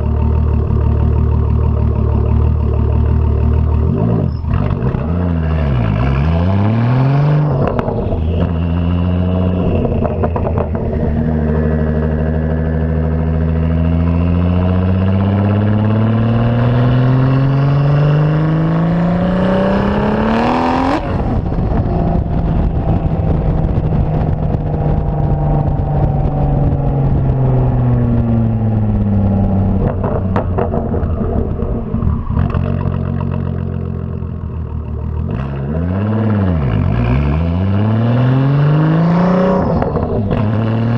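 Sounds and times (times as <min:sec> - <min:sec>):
turbocharged car engine accelerating: 0:00.0 - 0:40.9.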